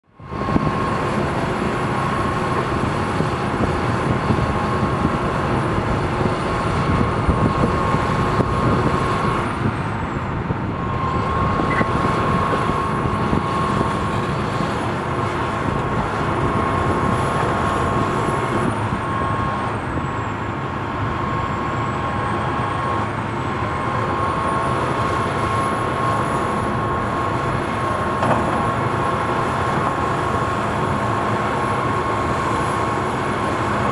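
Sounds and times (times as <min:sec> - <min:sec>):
heavy machinery engines rumbling: 0:00.1 - 0:33.9
faint high whine: 0:04.0 - 0:33.9.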